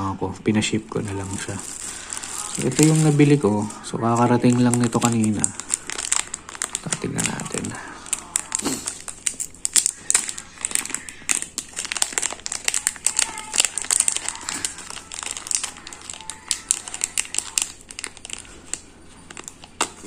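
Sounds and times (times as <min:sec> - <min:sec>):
plastic bag crinkling: 0:00.5 - 0:20.0.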